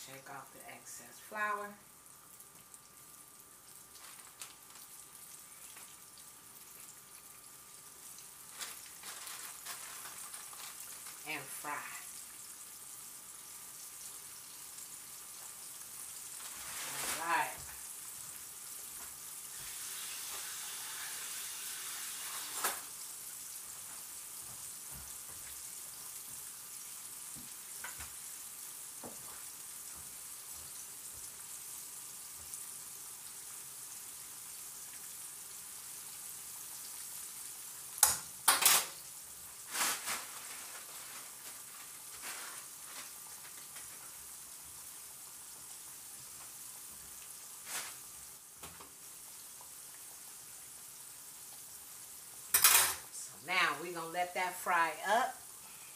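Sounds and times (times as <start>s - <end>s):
chicken frying in hot oil: 0.0s - 55.9s.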